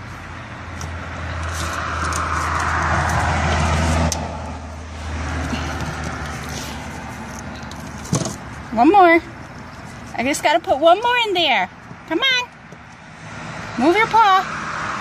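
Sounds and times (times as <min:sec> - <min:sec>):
car passing: 0:00.0 - 0:15.0.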